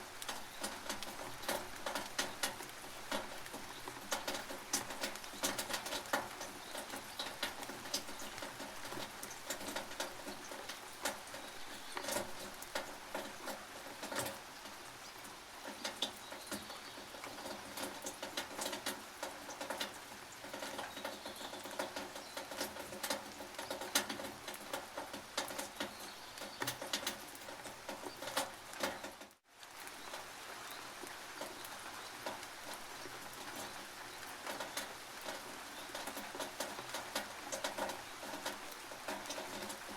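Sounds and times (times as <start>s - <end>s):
rain hiss: 0.0s - 39.9s
drops tapping on metal roof: 0.2s - 29.4s, 31.1s - 39.9s.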